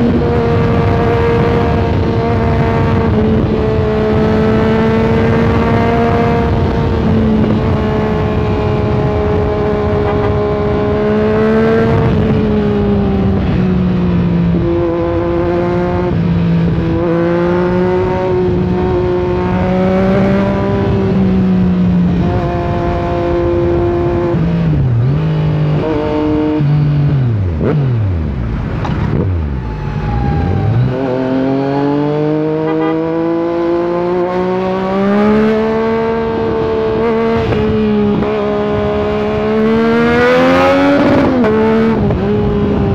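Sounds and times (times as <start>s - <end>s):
motorcycle engine under way: 0.0s - 29.6s, 30.4s - 42.9s.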